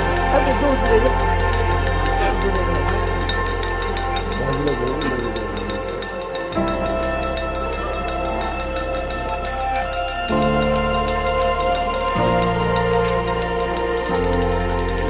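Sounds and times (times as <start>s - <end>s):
held keyboard chords: 0.0s - 15.0s
music with jingling beat: 0.0s - 15.0s.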